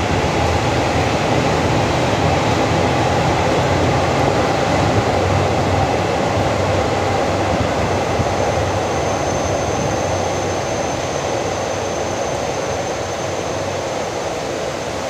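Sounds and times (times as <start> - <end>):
train coaches rolling: 0.0 - 14.6
rain: 0.0 - 15.0
wind: 0.0 - 15.0.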